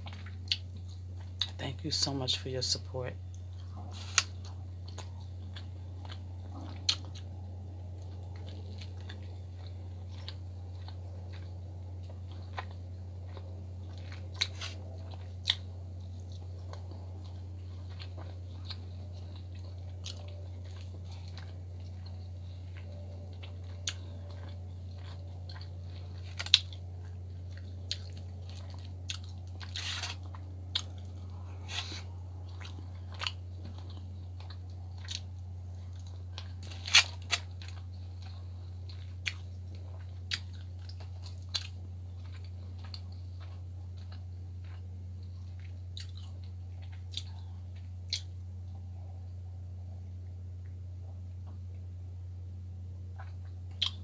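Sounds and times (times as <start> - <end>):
chewing and biting food: 0.0 - 2.2, 3.3 - 49.4, 53.1 - 54.0
steady low hum: 0.0 - 54.0.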